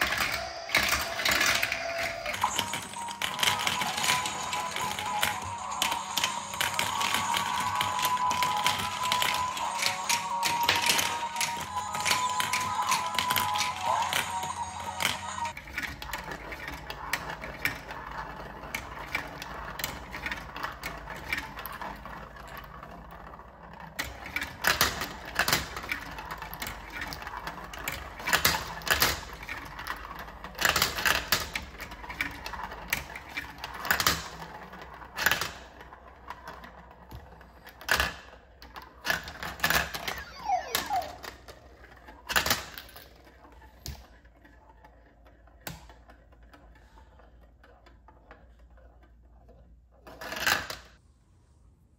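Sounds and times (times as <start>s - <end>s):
toy balls clattering on plastic track: 0.0s - 51.0s.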